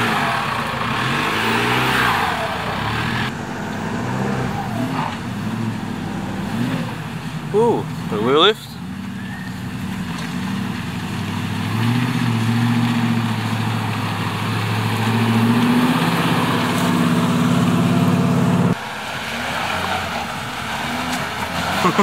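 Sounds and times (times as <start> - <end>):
engine running at low revs: 0.0 - 22.0
outdoor noise: 0.0 - 22.0.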